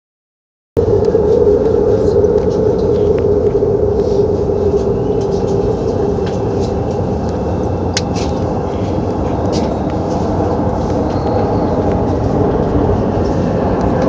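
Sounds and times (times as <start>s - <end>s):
metro train rumbling on rails: 0.8s - 14.0s.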